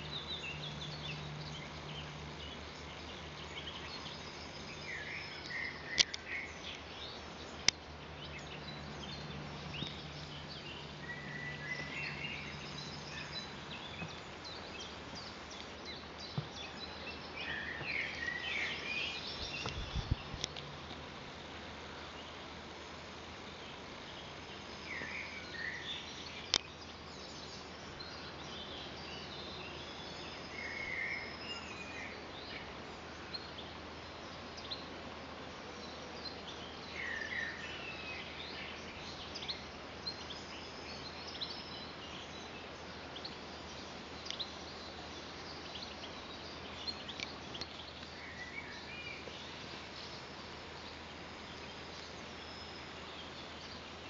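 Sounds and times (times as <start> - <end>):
birds chirping: 0.0 - 54.0
steady background hiss: 0.0 - 54.0.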